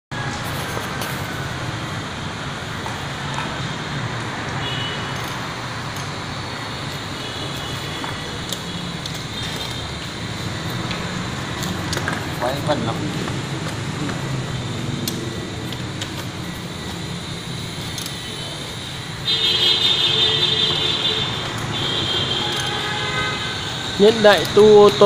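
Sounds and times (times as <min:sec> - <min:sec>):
motor vehicle rumble: 0:00.1 - 0:25.0.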